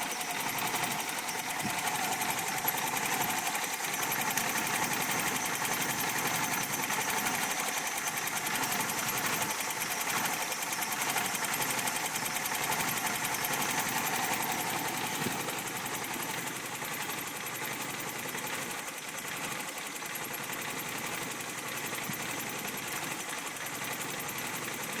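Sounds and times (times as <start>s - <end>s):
car engine idling roughly: 0.0s - 25.0s.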